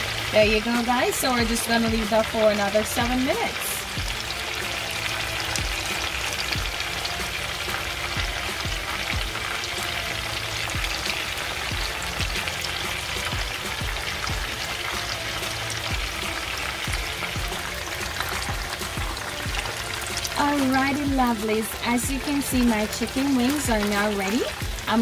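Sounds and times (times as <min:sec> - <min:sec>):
oil sizzling with crackles: 0:00.0 - 0:25.0.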